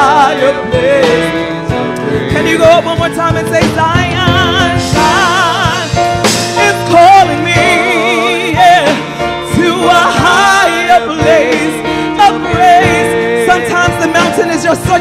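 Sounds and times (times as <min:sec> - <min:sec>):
backing instruments: 0:00.0 - 0:15.0
woman singing gospel song: 0:02.2 - 0:15.0.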